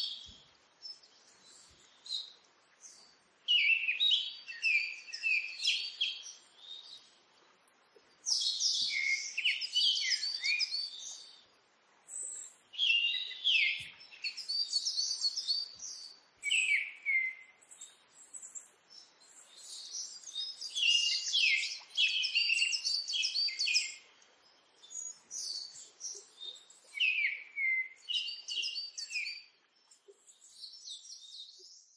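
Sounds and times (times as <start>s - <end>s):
songbird chirping and trilling: 0.0s - 31.9s.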